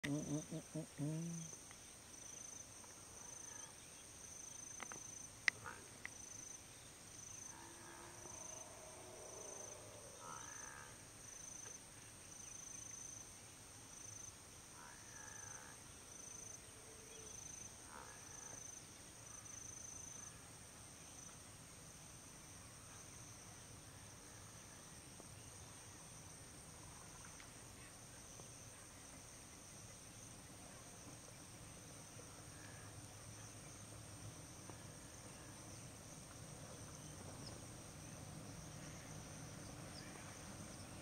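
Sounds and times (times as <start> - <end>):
insect chirping: 0.0 - 41.0.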